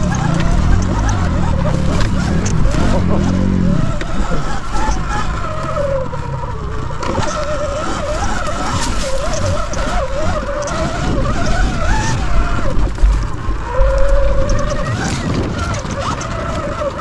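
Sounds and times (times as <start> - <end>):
electric motor whining: 0.0 - 17.0
low rumble and rattle: 0.0 - 17.0.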